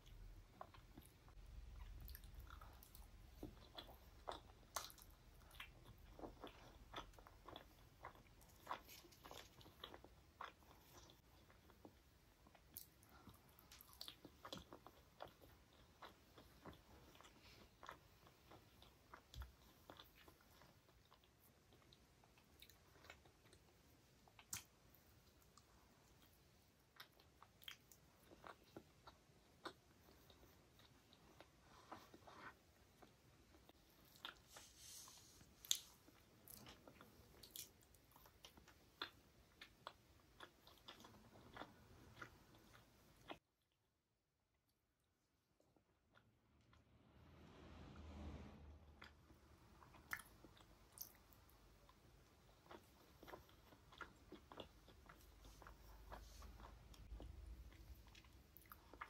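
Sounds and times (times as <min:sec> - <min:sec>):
person chewing with wet clicks: 0:00.0 - 0:34.6, 0:35.6 - 0:43.4, 0:49.0 - 0:59.0.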